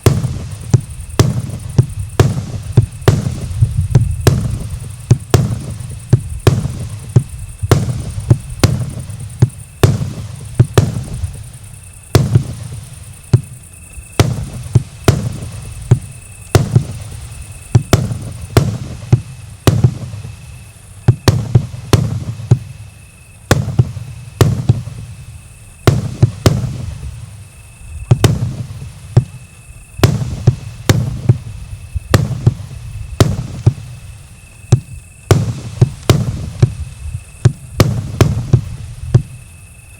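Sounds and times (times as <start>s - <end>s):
firework launch thumps: 0.0s - 22.8s, 23.5s - 25.2s, 25.8s - 27.3s, 28.0s - 29.4s, 30.0s - 39.5s
firework aerial bursts: 0.0s - 39.9s.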